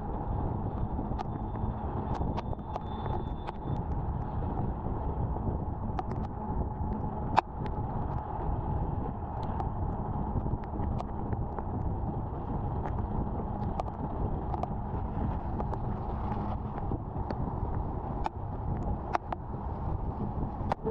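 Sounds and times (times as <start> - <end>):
wind on microphone: 0.0 - 20.9.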